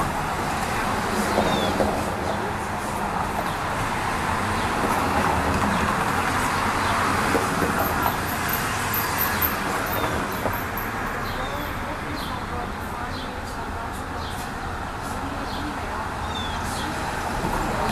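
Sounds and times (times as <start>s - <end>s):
road traffic passing: 0.0s - 17.9s.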